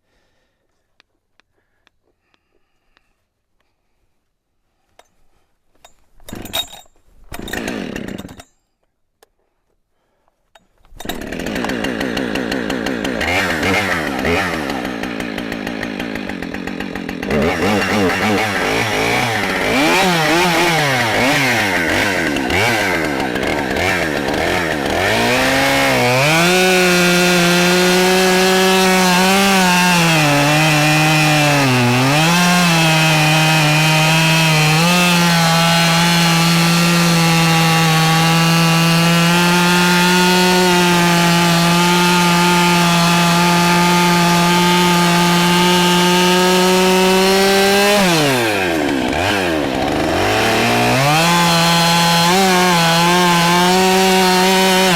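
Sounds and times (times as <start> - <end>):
chainsaw cutting log: 6.2 - 8.6, 10.6 - 54.9.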